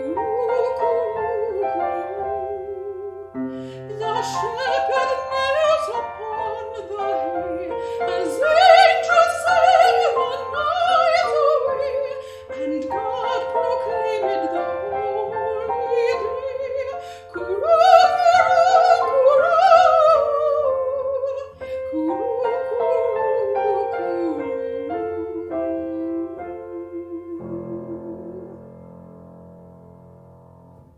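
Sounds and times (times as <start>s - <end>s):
soprano singing with vibrato: 0.0s - 29.0s
piano accompaniment: 0.0s - 30.9s.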